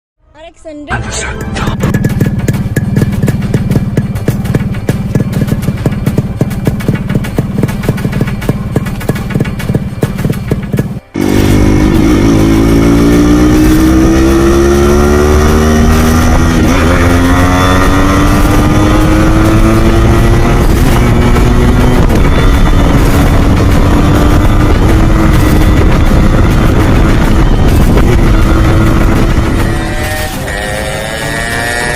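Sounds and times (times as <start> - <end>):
two-stroke motorcycle engine: 1.6 - 31.9.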